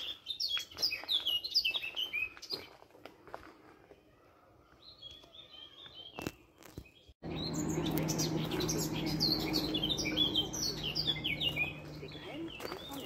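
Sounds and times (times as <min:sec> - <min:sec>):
small birds chirping: 0:00.0 - 0:02.9, 0:04.1 - 0:13.0.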